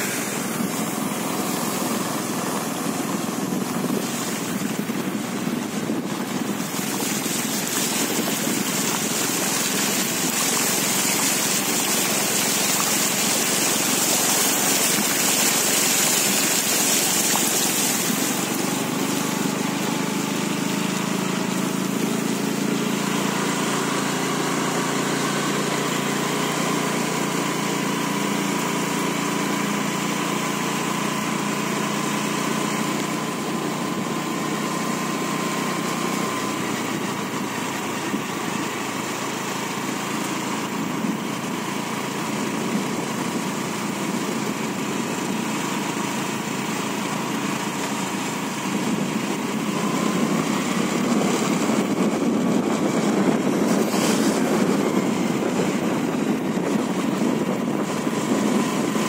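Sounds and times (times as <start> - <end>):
constant rushing noise: 0.0 - 59.0
small engine whining: 0.0 - 59.0.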